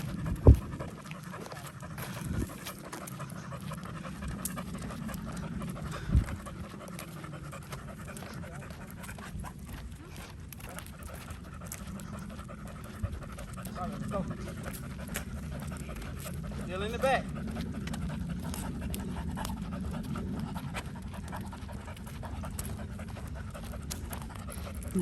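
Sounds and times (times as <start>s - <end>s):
dog panting hard: 0.0s - 25.0s.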